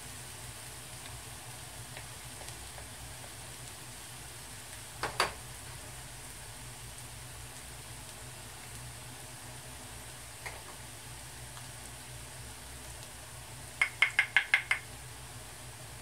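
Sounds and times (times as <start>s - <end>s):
onions sizzling in a pan: 0.0s - 16.0s.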